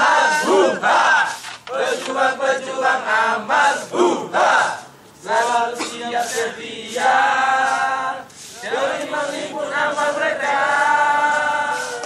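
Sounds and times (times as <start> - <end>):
group singing a chant: 0.0 - 12.0.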